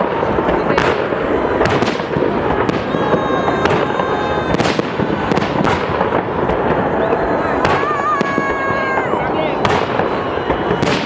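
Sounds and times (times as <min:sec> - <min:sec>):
fireworks rumble and crackle: 0:00.0 - 0:11.0
sharp firework bangs: 0:00.0 - 0:11.0.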